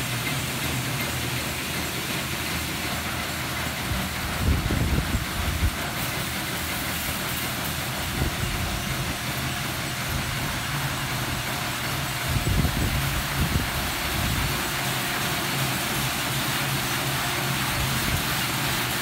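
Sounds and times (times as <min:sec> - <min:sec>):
high-pressure water spray hissing: 0:00.0 - 0:19.0
machine hum: 0:00.0 - 0:19.0.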